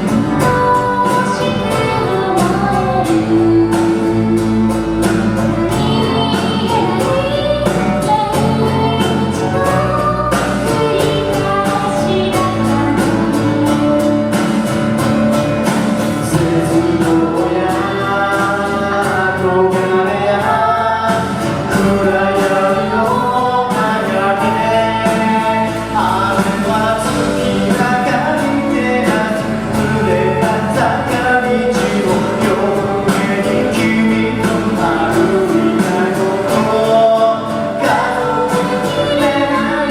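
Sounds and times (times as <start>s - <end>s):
live pop-rock band: 0.0s - 39.9s
person singing: 0.0s - 39.9s.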